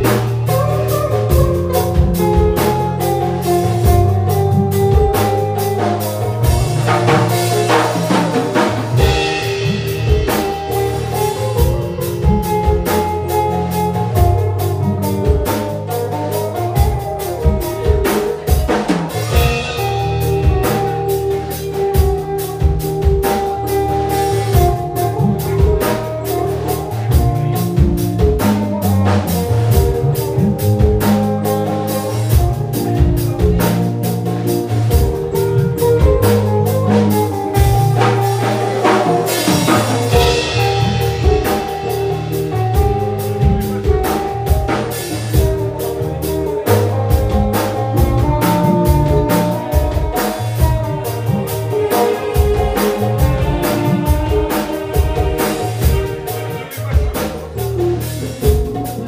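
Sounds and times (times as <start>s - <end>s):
background music with drum beat: 0.0s - 59.0s.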